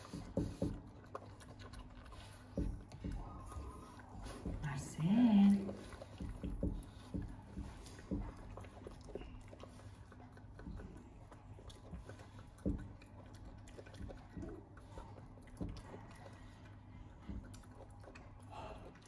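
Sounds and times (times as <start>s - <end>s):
animal wet chewing: 0.0s - 19.0s.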